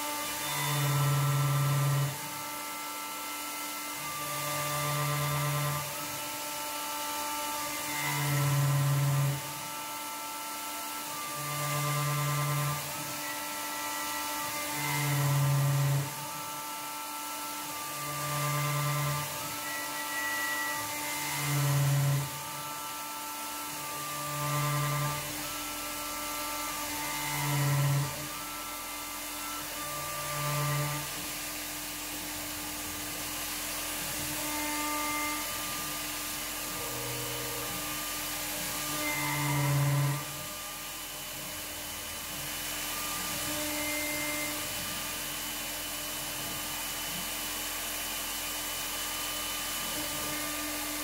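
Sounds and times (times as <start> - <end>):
mill spindle whine: 0.0 - 51.0.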